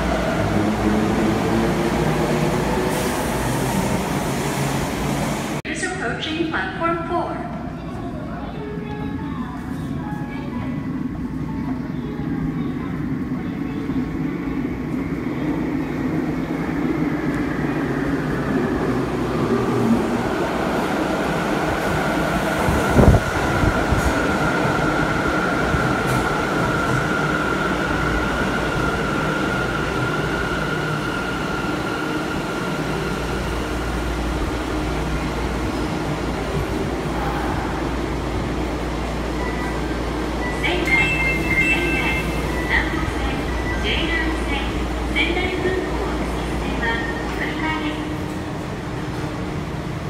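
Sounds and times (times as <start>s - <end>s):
train rumbling into station: 0.0s - 50.0s.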